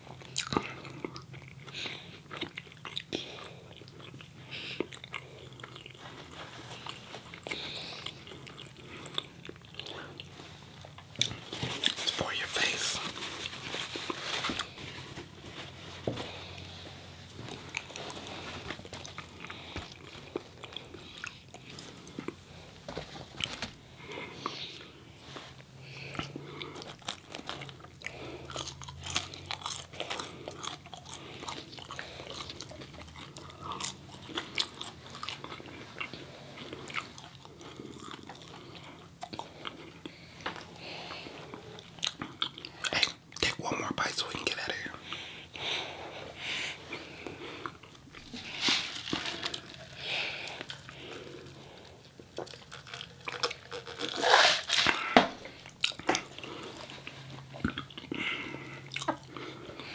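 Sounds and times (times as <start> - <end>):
crunchy chewing: 0.0 - 43.6, 46.9 - 59.9.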